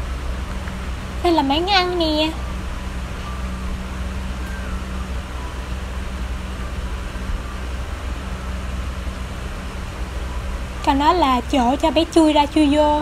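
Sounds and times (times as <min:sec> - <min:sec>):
constant hiss: 0:00.0 - 0:13.0
steady low hum: 0:00.0 - 0:13.0.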